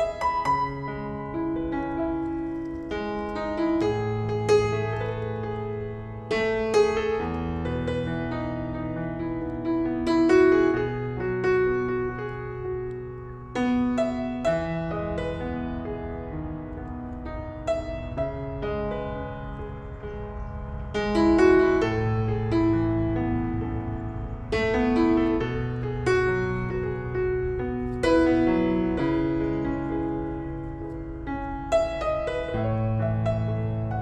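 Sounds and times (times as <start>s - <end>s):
slow piano music: 0.0s - 34.0s.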